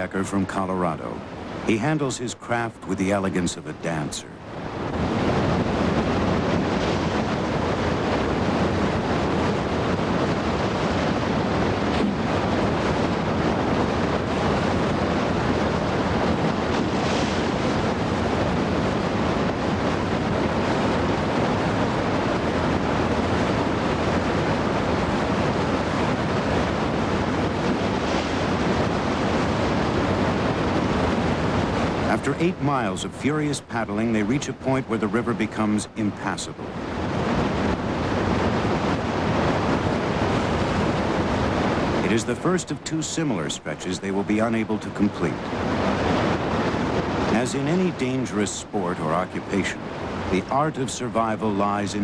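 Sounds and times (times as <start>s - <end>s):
whitewater river roaring: 0.0s - 52.0s.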